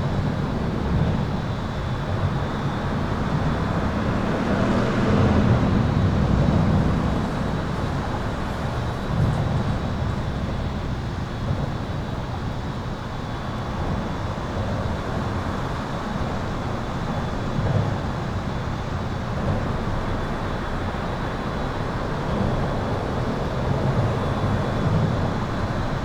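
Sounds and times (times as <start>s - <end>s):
highway traffic rumble: 0.0s - 26.0s.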